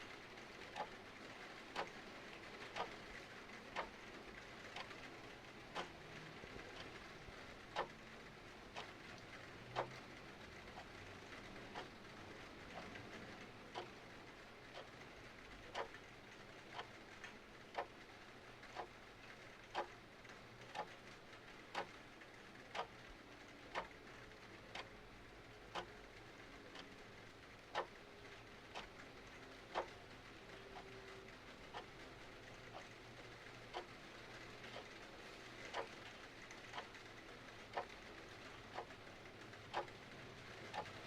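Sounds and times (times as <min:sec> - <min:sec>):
clock ticking: 0:00.6 - 0:01.0, 0:01.7 - 0:08.1, 0:08.7 - 0:12.0, 0:12.7 - 0:20.0, 0:20.6 - 0:22.1, 0:22.7 - 0:25.0, 0:25.7 - 0:41.0.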